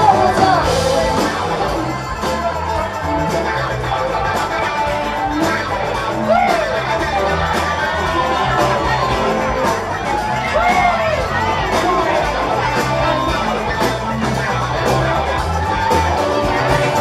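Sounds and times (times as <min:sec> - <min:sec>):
bass line: 0:00.0 - 0:17.0
drums steady beat: 0:00.0 - 0:17.0
live band playing: 0:00.0 - 0:17.0.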